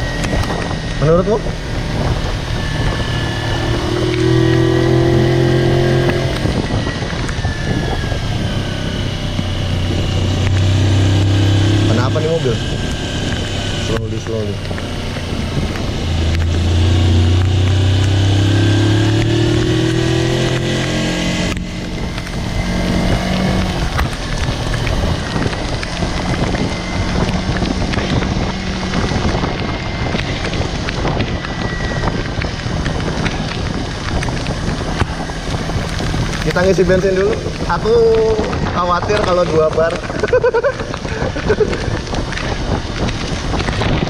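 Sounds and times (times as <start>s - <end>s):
motorcycle engine accelerating: 0.0s - 44.0s
wind noise on microphone: 0.0s - 44.0s.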